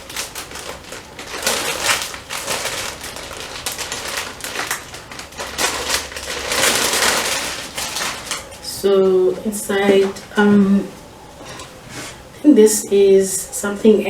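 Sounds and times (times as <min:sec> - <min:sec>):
packaging rustling and crinkling: 0:00.0 - 0:12.3.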